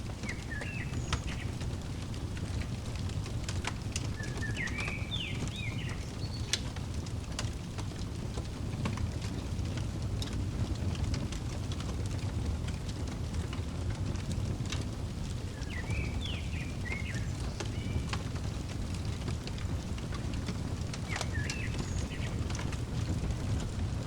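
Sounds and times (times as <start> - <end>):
fireplace crackling: 0.0 - 24.0.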